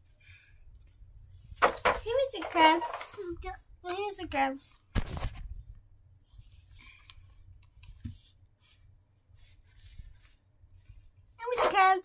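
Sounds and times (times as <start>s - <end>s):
soft rustles of handling: 0.0s - 12.0s.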